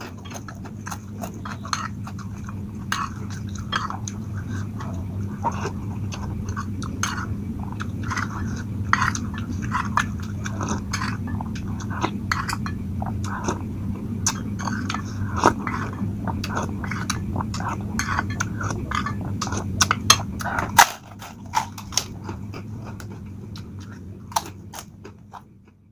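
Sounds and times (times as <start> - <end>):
person chewing and biting: 0.0 - 25.8
steady low hum: 0.0 - 25.9.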